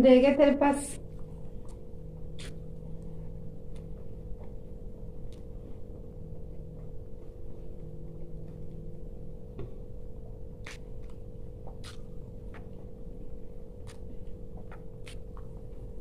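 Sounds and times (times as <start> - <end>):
steady low hum: 0.0 - 16.0
crunching and chewing food: 1.0 - 16.0.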